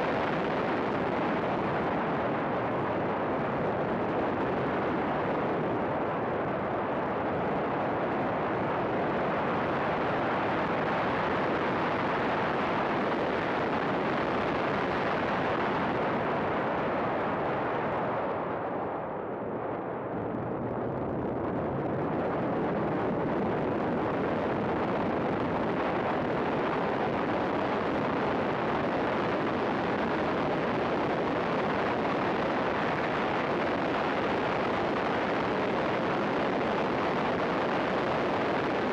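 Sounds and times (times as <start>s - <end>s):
wind noise: 0.0s - 38.9s.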